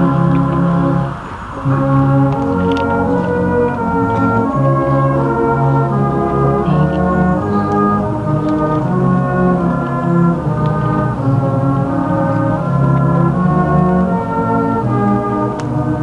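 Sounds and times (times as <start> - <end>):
band playing slow tune: 0.0 - 16.0.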